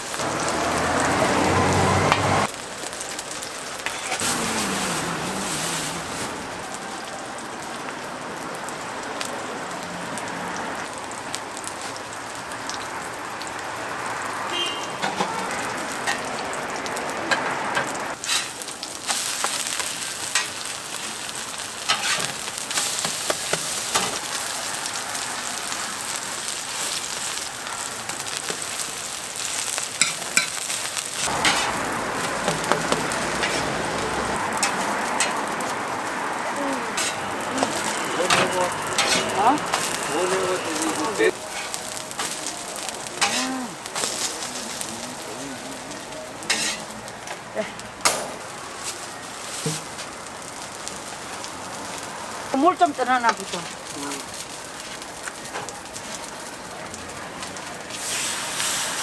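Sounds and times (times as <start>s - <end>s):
pancakes sizzling in oil: 0.0s - 59.0s.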